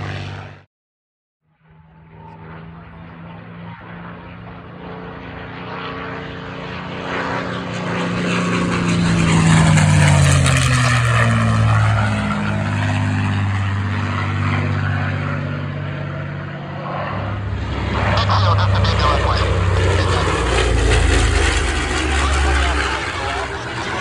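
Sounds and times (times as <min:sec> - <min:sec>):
propeller plane flying past: 0:00.0 - 0:00.7, 0:01.4 - 0:24.0.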